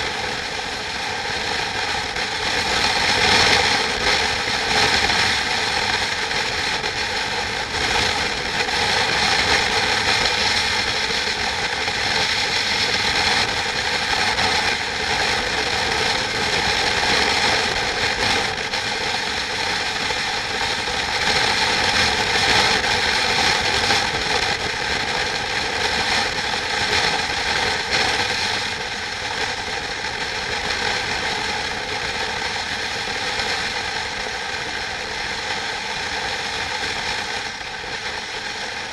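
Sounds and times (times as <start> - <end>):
continuous mechanical noise: 0.0 - 38.9.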